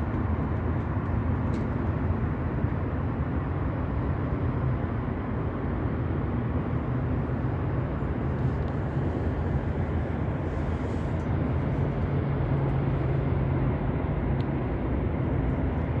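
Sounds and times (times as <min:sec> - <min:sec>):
low urban background rumble: 0:00.0 - 0:16.0.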